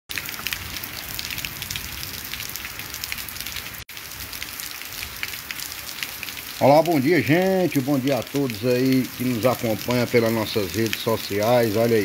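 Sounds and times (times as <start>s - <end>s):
rain hissing: 0.1s - 12.0s
raindrops ticking: 0.1s - 12.0s.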